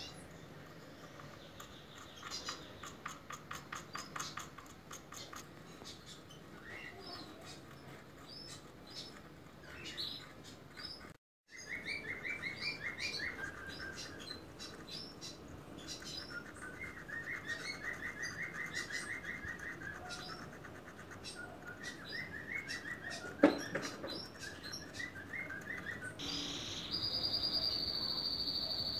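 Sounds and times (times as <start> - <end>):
animal chirping trills: 0.0 - 28.9.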